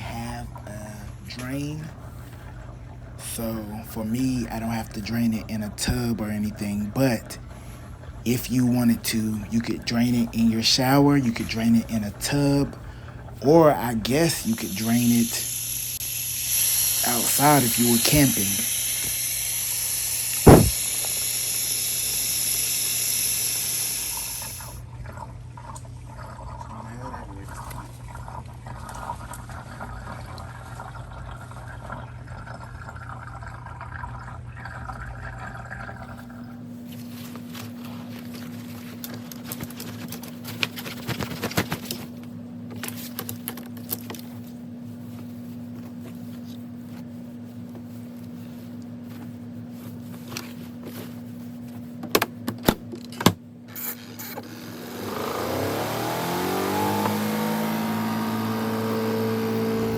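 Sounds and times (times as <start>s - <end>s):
spin-dryer motor humming: 0.0s - 25.0s, 35.4s - 59.9s.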